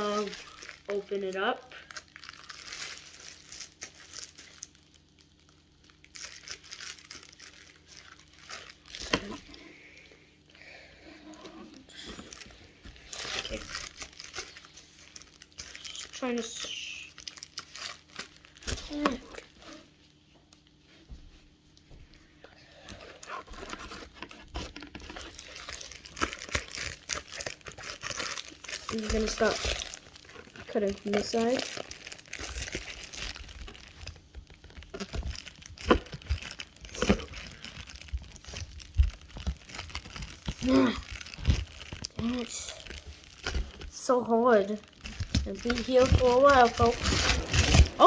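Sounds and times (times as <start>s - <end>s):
packaging crinkling and rustling: 0.0s - 9.9s, 11.2s - 20.8s, 22.8s - 48.0s.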